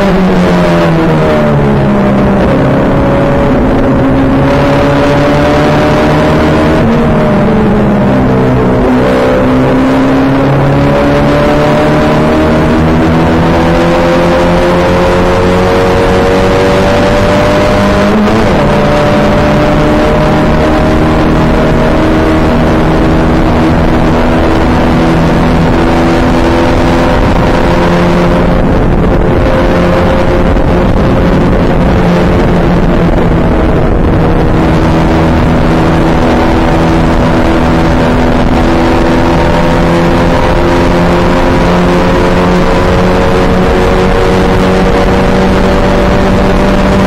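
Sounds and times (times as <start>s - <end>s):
racing car engine running hard: 0.0s - 47.0s.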